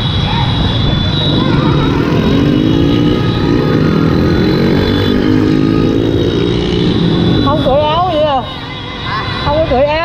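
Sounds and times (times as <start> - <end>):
motorcycle engines revving: 0.0 - 10.0
wind and road noise: 0.0 - 10.0.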